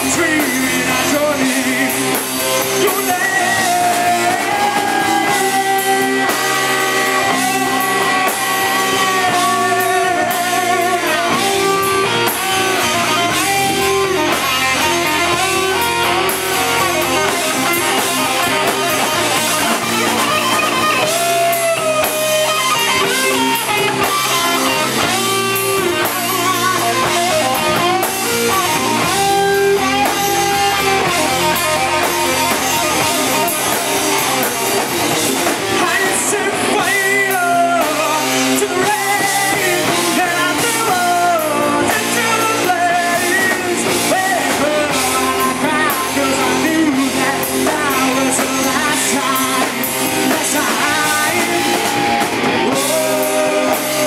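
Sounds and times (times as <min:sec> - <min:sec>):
live rock band playing: 0:00.0 - 0:54.0
man singing lead vocal: 0:00.0 - 0:54.0.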